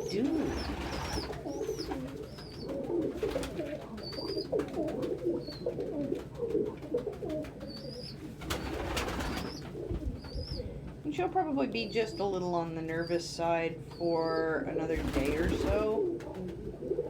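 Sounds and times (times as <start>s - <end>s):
pigeons cooing: 0.0s - 11.0s, 11.8s - 17.0s.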